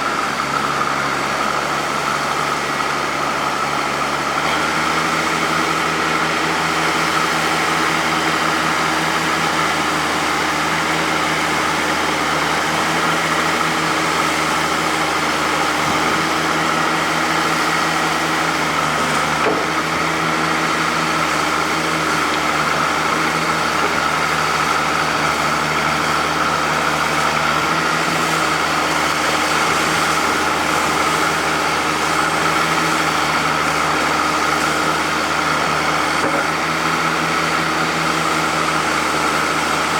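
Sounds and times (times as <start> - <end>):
tractor engine running steadily: 0.0 - 39.9.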